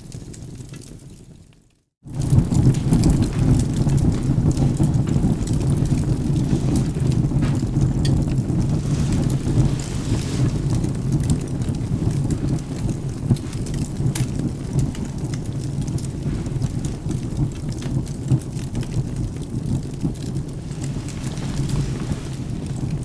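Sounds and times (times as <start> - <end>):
steady rain: 0.0 - 23.0
wood fire crackling: 0.0 - 23.0
low thunder rumble: 2.1 - 23.0.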